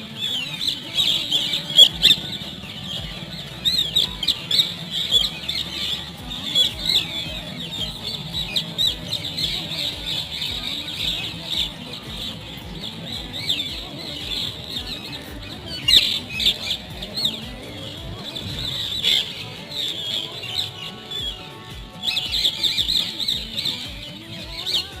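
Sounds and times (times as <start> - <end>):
background music with low beat: 0.0 - 25.0.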